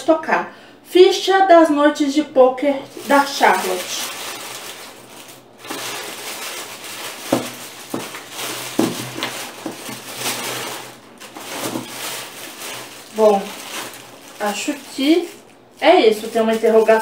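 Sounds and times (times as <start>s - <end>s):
paper wrapping rustling: 2.9s - 17.0s.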